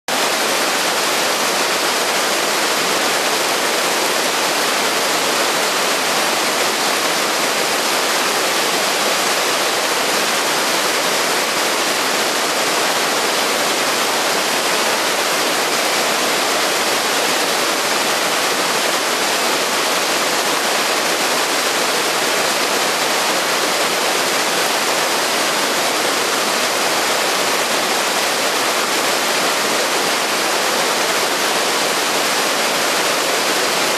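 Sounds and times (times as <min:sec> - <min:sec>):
mountain stream rushing: 0:00.1 - 0:33.9
waterfall splashing onto boulders: 0:00.1 - 0:33.9.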